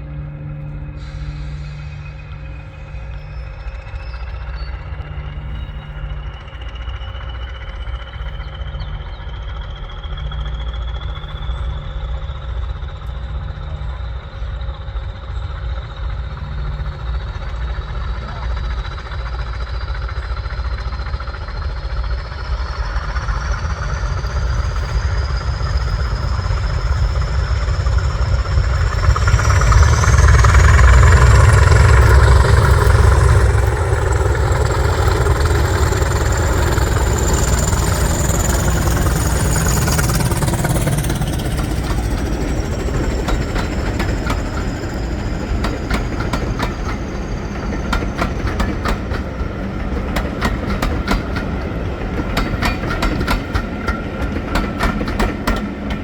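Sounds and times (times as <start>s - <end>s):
high whine rising in pitch: 0.0s - 54.8s
diesel locomotive engine rumble: 0.0s - 56.0s
wheels clicking over rail joints: 3.9s - 56.0s.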